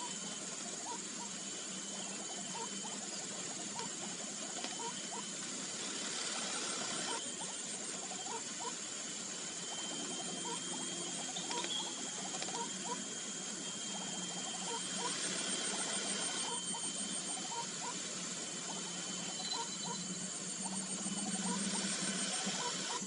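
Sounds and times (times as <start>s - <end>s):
pulsing insect drone: 0.0s - 23.0s.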